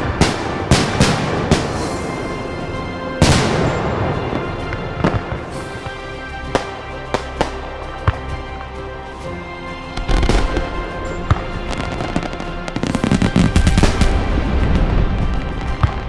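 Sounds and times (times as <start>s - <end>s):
fireworks crackling bangs: 0.0s - 8.2s, 10.0s - 16.0s
background music: 0.0s - 16.0s.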